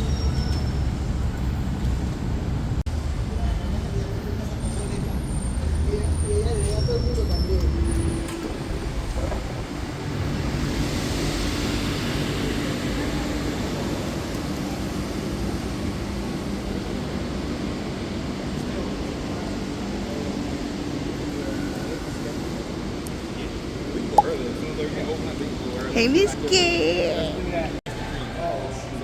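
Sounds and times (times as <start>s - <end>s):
road traffic noise: 0.0s - 24.4s.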